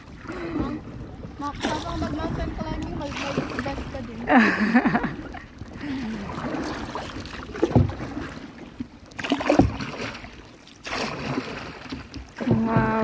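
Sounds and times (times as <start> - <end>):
light wash of water: 0.0 - 13.0
paddle splashing in water: 0.0 - 13.0.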